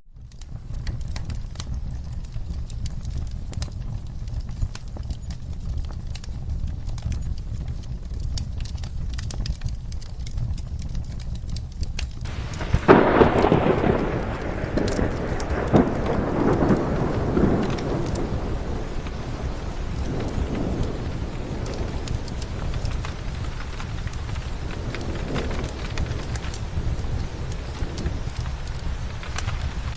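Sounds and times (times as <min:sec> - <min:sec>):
steady rain: 0:00.1 - 0:29.9
thunderclap rumbling: 0:00.1 - 0:29.9
fireplace crackling: 0:00.2 - 0:29.9.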